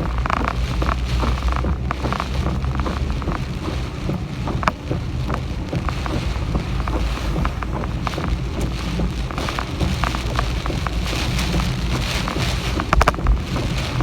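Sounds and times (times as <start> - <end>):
sharp rain taps: 0.0 - 14.0
wind buffeting microphone: 0.0 - 14.0.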